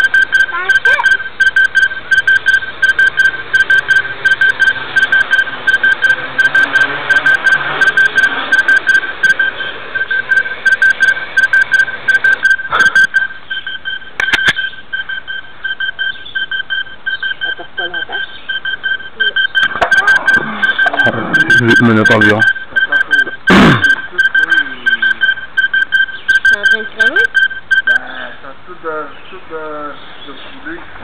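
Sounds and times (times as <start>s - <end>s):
pulsing high-pitched tone: 0.0s - 28.3s.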